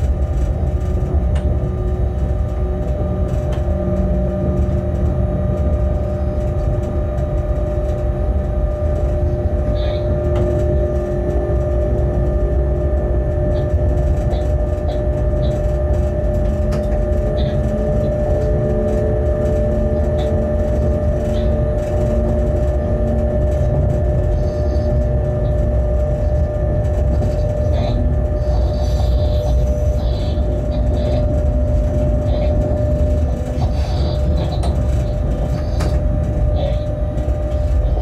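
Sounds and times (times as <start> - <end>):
locomotive low rumble and hum: 0.0 - 38.0.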